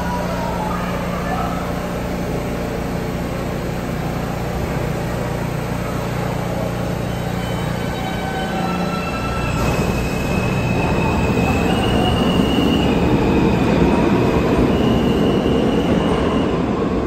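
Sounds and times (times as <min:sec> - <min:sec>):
subway train equipment humming: 0:00.0 - 0:17.0.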